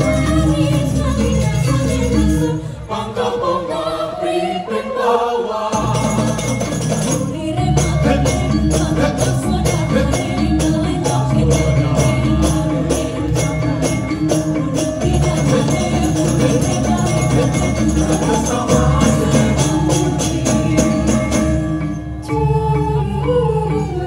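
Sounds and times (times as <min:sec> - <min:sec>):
gamelan playing: 0:00.0 - 0:03.5, 0:04.7 - 0:24.0
women's choir singing: 0:00.0 - 0:21.6.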